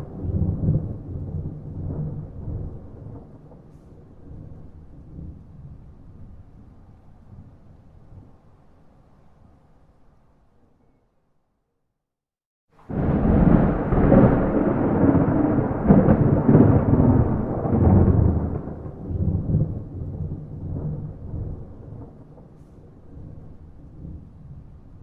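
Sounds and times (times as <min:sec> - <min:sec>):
thunderclap: 0:00.0 - 0:08.3, 0:12.8 - 0:25.0
rumble of thunder: 0:00.0 - 0:08.6, 0:12.8 - 0:25.0.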